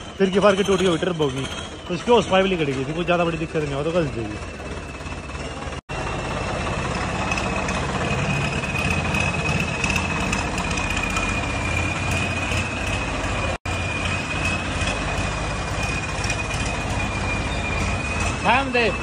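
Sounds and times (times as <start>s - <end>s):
high-pitched whistle: 0.0s - 19.0s
tractor diesel engine running: 0.0s - 19.0s.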